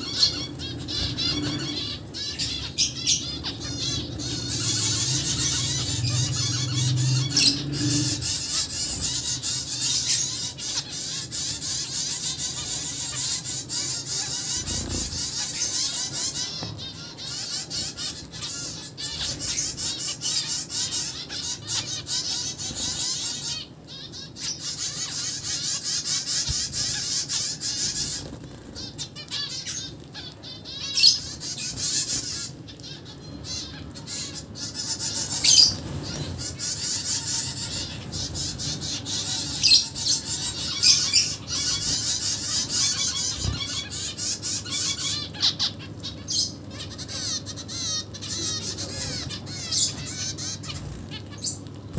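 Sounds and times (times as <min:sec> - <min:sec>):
finches chattering: 0:00.0 - 0:51.9.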